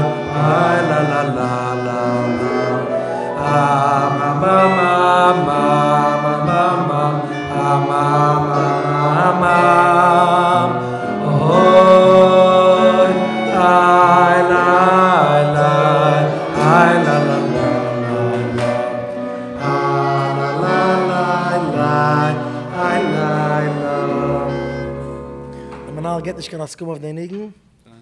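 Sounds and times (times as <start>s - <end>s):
man singing slow melody: 0.0s - 25.1s.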